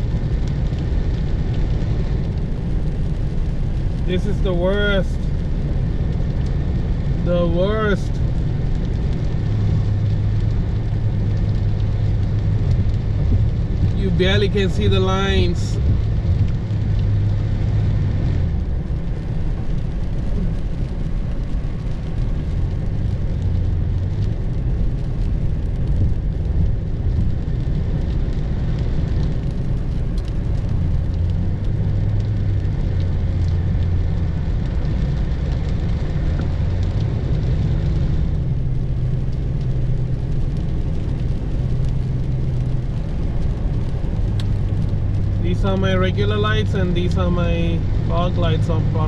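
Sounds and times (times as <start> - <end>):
road and wind rumble in car: 0.0 - 49.0.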